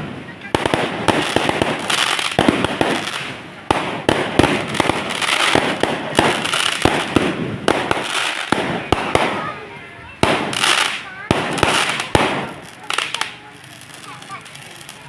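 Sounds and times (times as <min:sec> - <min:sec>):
fireworks bangs with crackle: 0:00.0 - 0:15.0.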